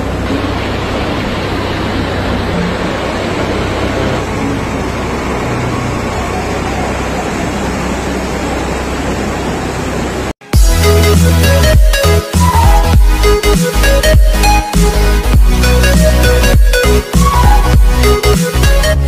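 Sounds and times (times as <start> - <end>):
electric train moving through water: 0.0 - 19.0.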